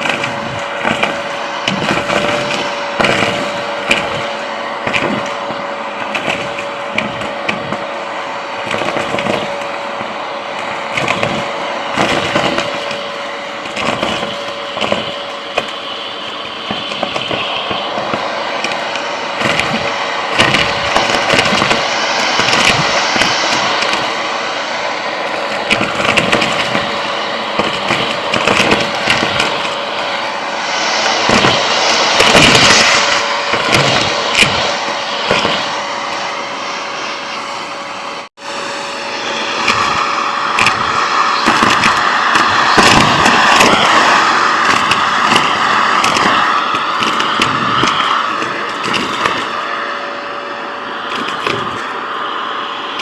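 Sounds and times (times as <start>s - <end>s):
debris rattling through nozzle: 0.0s - 37.8s, 38.4s - 53.0s
vacuum cleaner running: 0.0s - 53.0s.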